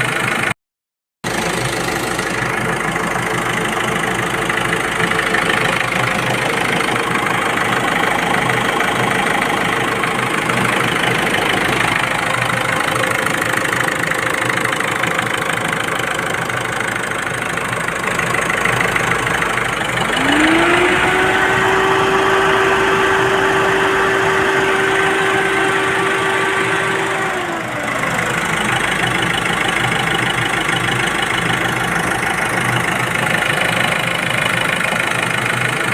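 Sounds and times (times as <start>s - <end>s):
diesel engine idling and revving: 0.0s - 0.6s, 1.2s - 35.9s.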